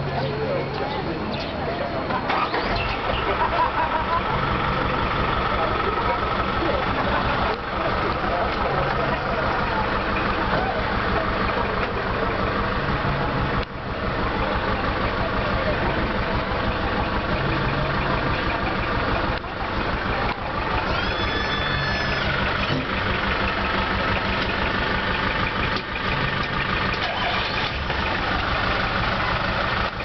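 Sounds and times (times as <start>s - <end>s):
diesel truck engines idling: 0.0s - 30.0s.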